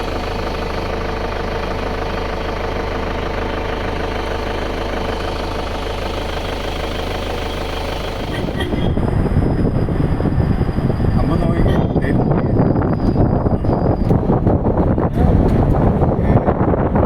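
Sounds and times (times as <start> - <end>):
low rumble: 0.0 - 17.0
vehicle engine humming: 0.0 - 17.0.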